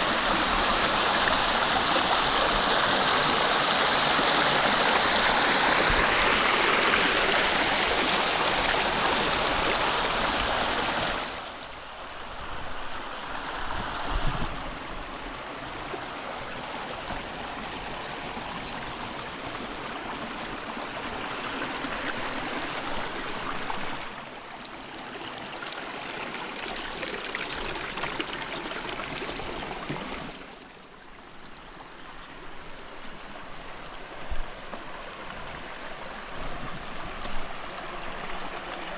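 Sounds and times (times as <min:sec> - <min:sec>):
river water rushing over rocks: 0:00.0 - 0:31.1, 0:32.4 - 0:38.9.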